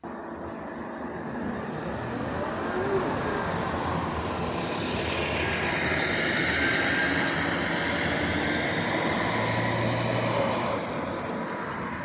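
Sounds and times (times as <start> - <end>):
passing vehicle engine and tyres: 0.2 - 12.0.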